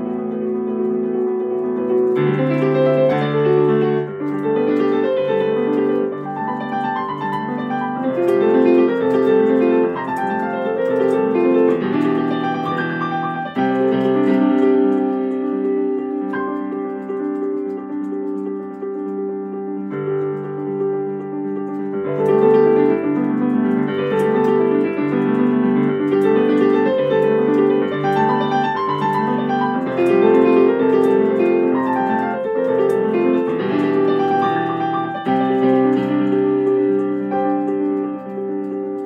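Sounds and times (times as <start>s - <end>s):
solo piano music: 0.0s - 39.0s.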